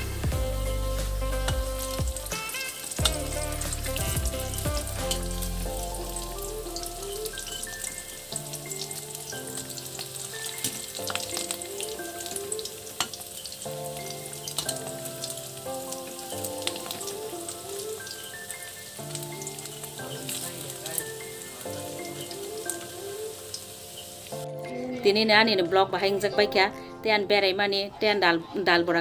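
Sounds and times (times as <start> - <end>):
fritters sizzling in hot oil: 0.0 - 24.5
faint background music: 0.0 - 29.0.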